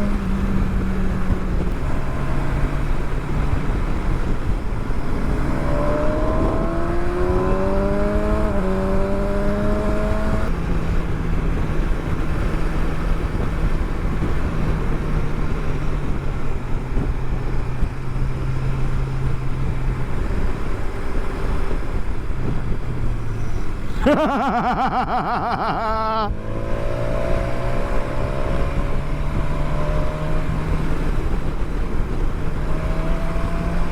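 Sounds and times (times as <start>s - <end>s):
motorcycle engine accelerating: 0.0s - 33.9s
wind rumble: 0.0s - 33.9s.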